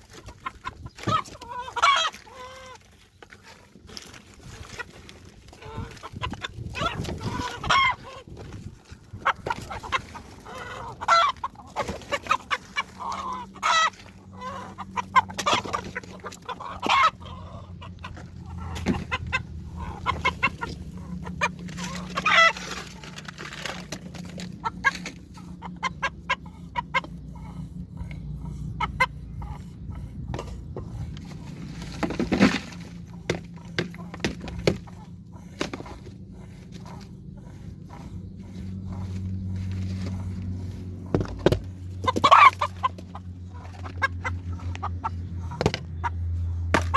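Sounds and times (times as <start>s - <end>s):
chickens clucking: 0.0s - 46.9s
steady low hum: 0.0s - 46.9s.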